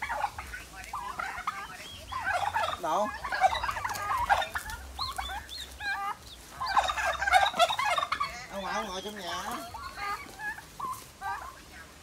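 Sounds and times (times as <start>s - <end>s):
turkeys gobbling: 0.0s - 12.0s.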